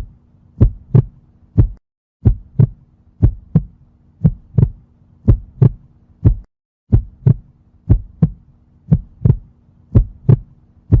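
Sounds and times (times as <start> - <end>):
faint low hum: 0.0 - 11.0
heartbeat thumps: 0.0 - 11.0.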